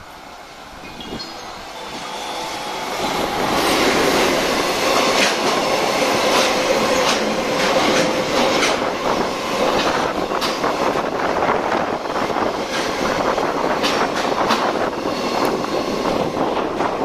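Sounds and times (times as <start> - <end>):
train wheels rumbling on rails: 0.0 - 17.0
wheels clacking over rail joints: 2.4 - 17.0.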